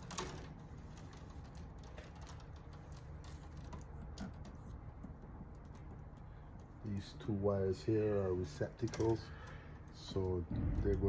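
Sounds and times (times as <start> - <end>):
steady low hum: 0.0 - 11.0
wires and hardware clicking: 0.0 - 11.0.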